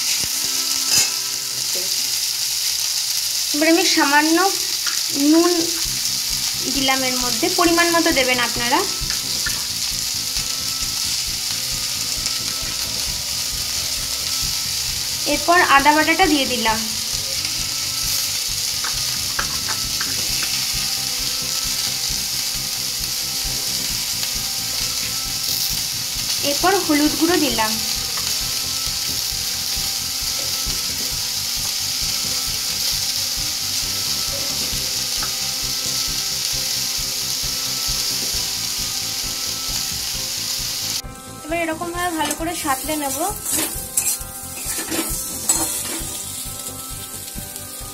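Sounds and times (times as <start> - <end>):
vegetables frying in oil: 0.0 - 47.9.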